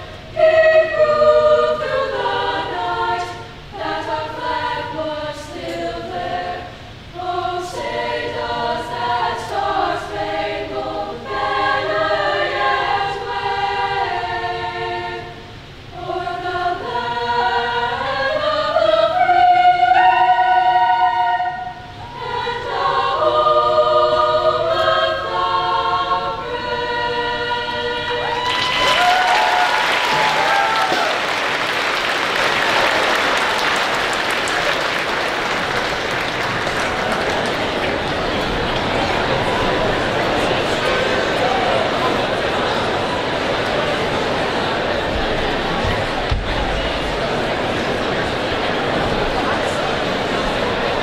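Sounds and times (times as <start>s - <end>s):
choir singing long notes: 0.0s - 51.0s.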